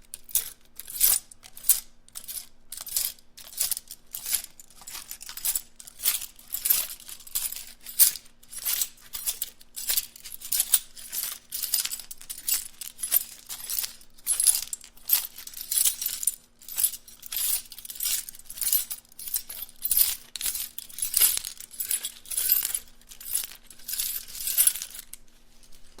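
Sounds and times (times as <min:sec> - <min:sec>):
small metal items rattling: 0:00.1 - 0:26.0.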